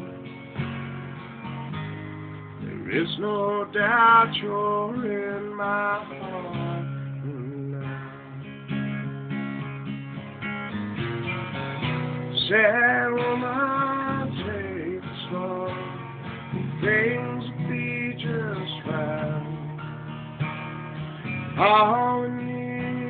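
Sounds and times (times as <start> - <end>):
guitar playing: 0.0 - 23.0.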